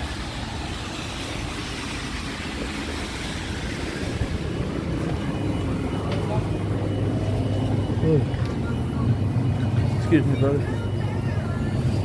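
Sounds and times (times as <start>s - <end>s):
vehicles rumbling by: 0.0s - 12.0s.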